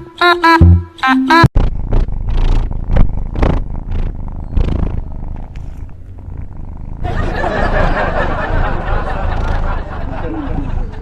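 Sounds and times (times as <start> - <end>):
cat purring: 1.6 - 11.0.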